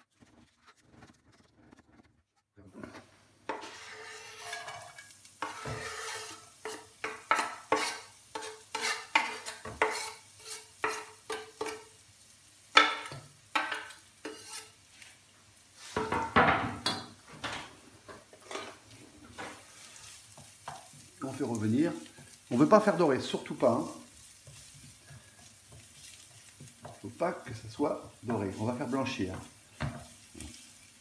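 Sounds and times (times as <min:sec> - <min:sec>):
utensil tapping and scraping pan: 0:02.8 - 0:11.9, 0:12.7 - 0:14.8, 0:15.8 - 0:31.0
onions sizzling in oil: 0:03.5 - 0:31.0.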